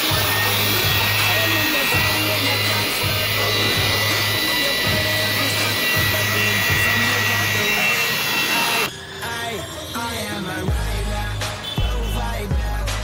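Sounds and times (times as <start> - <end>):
electric motor whining: 0.0 - 11.4
pop music: 0.0 - 13.0.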